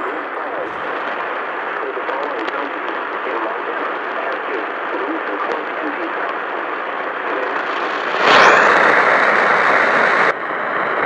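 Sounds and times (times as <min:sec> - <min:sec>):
radio static hiss: 0:00.0 - 0:10.3.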